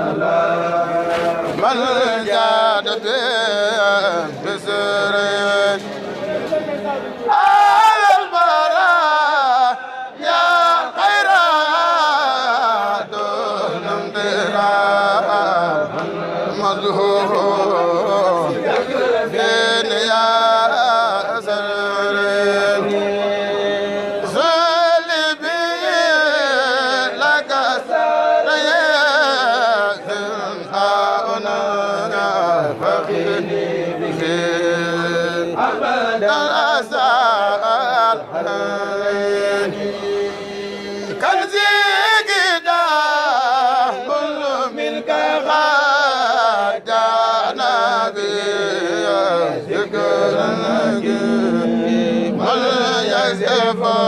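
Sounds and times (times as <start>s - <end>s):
man chanting unaccompanied: 0.0s - 54.0s.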